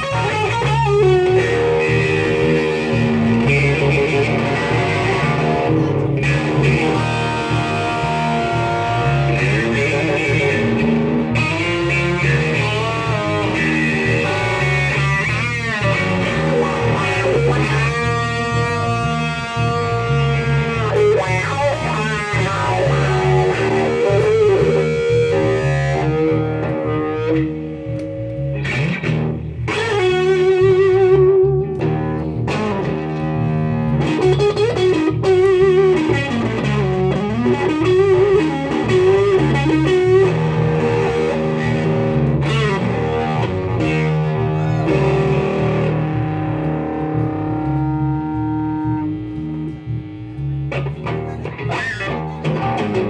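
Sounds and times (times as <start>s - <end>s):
electric bass line: 0.0s - 53.0s
electric guitar solo: 0.0s - 53.0s.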